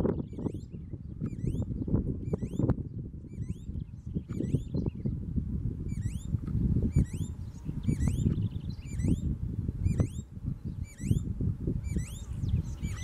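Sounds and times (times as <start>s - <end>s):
bird singing rising notes: 0.0s - 5.2s, 5.8s - 13.0s.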